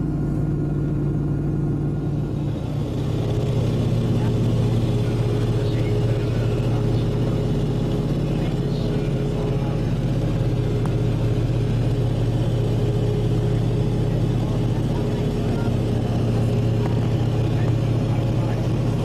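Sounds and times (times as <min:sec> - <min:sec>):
propeller engines droning in cabin: 0:00.0 - 0:19.0.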